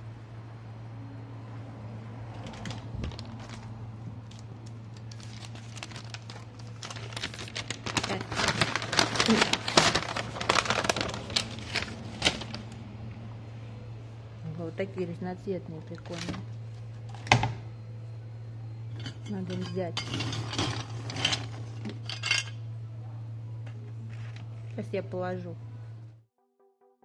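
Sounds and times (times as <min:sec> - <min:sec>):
low steady hum: 0:00.0 - 0:26.3.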